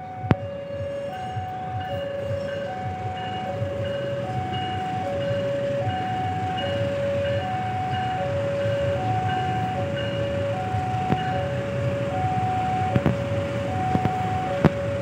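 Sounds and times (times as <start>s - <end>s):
two-tone warning alarm: 0.0s - 15.0s.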